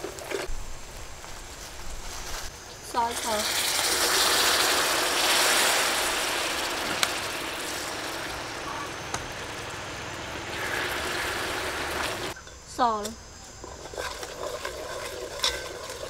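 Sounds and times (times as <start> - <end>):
sauce sizzling and bubbling in pot: 2.1 - 12.4, 13.4 - 16.0.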